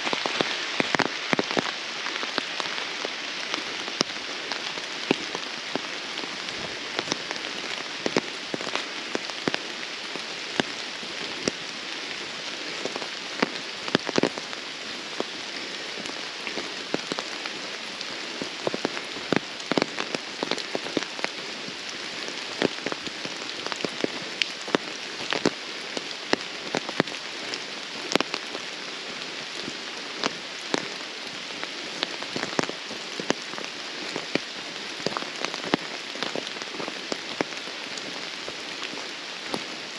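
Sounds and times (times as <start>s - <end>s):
rain pattering through woodland: 0.0s - 39.9s.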